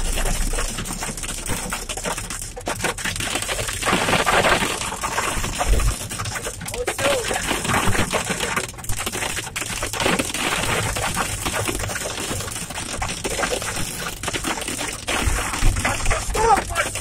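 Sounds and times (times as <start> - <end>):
hail clattering on car roof: 0.0 - 17.0.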